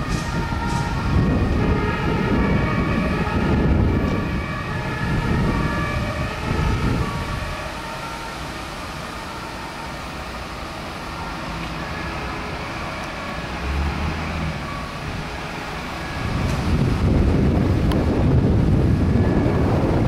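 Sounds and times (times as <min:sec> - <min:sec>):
wind buffeting microphone: 0:00.0 - 0:11.2, 0:11.8 - 0:20.0
fire engine diesel engines: 0:00.0 - 0:20.0
siren: 0:00.0 - 0:20.0.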